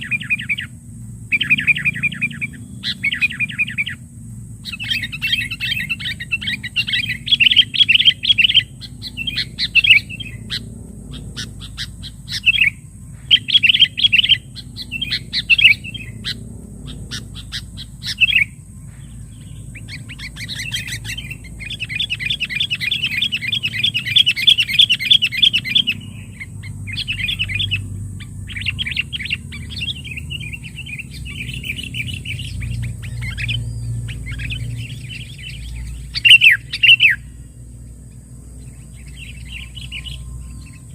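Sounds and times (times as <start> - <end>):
bulbul chattering calls: 0.0 - 40.9.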